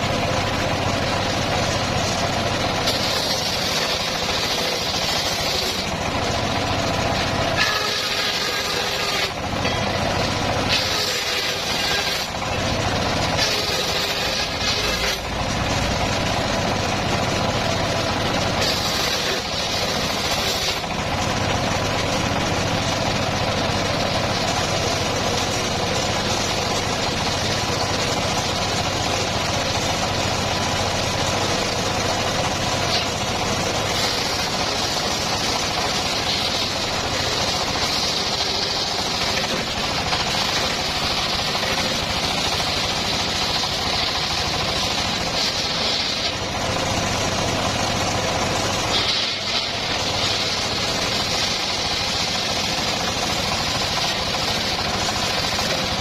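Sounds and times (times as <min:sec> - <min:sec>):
engine-driven sawmill sawing wood: 0:00.0 - 0:56.0.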